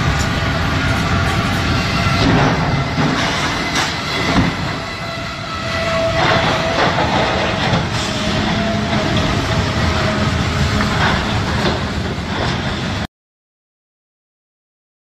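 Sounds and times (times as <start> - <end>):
freight train rolling: 0.0 - 13.1.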